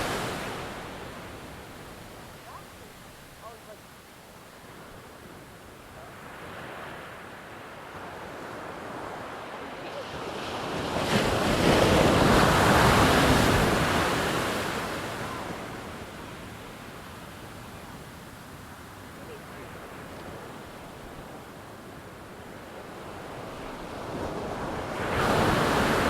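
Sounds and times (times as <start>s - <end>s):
ocean wave breaking: 0.0s - 5.5s, 6.1s - 16.5s, 18.5s - 26.0s.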